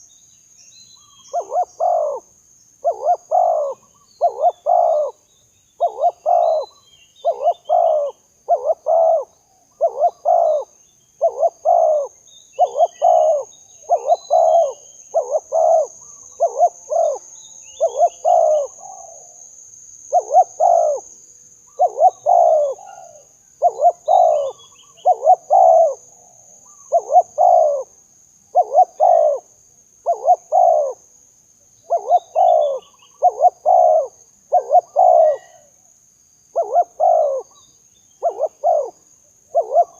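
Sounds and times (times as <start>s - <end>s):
small birds chirping: 0.0s - 35.9s, 36.5s - 39.9s
dove cooing: 1.2s - 5.2s, 5.8s - 19.4s, 20.1s - 21.1s, 21.7s - 31.1s, 31.9s - 35.8s, 36.5s - 39.9s.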